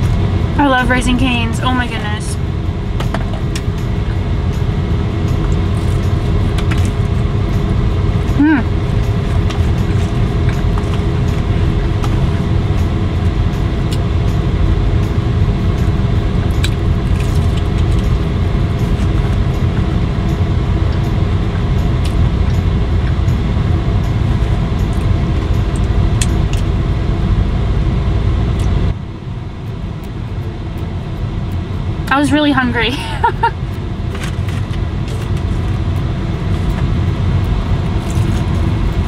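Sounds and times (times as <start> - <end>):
car cabin drone: 0.0 - 39.0.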